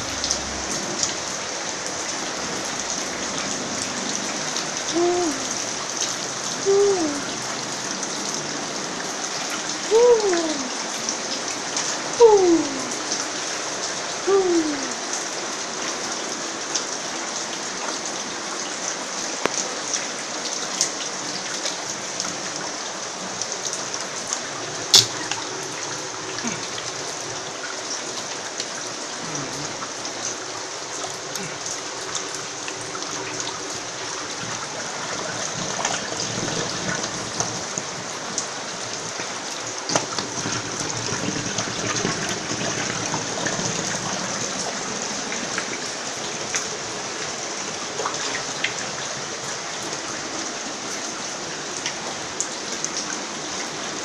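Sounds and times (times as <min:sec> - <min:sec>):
rain with drips and splashes: 0:00.0 - 0:54.0.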